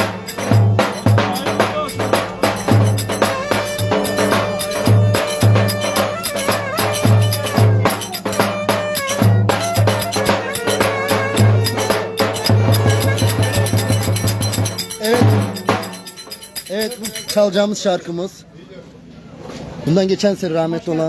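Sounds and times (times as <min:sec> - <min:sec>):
band playing folk dance music: 0:00.0 - 0:17.4
heavy drum beat: 0:00.0 - 0:17.5
shaking percussion: 0:00.0 - 0:18.1.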